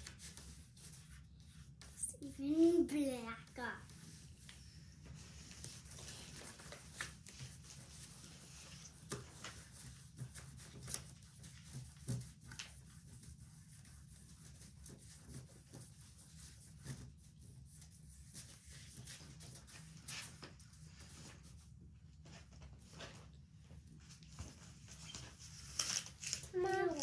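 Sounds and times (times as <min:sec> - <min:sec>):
pastels scratching on paper: 0:00.0 - 0:21.6, 0:24.9 - 0:27.0.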